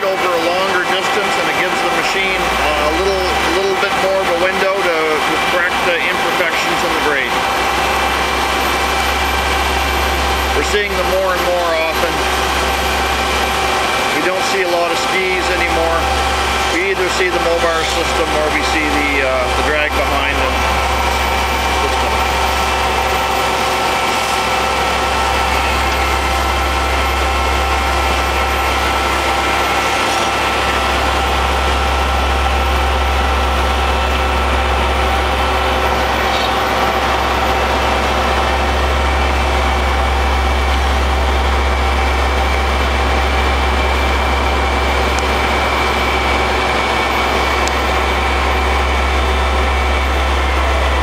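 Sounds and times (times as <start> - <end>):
heavy diesel engine droning: 0.0 - 51.0.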